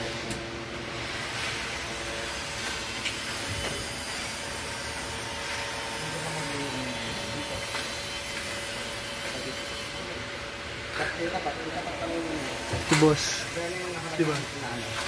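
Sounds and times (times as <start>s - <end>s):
workshop background hiss: 0.0s - 15.0s.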